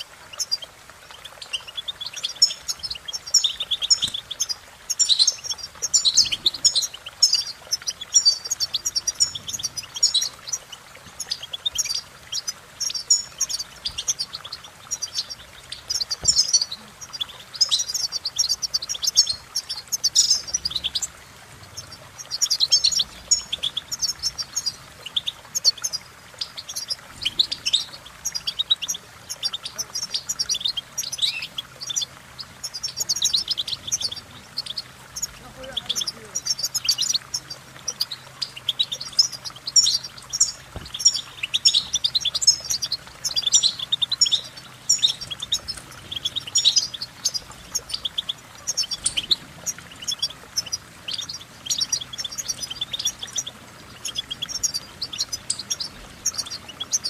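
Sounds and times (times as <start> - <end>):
goldfinch singing: 0.0 - 57.0.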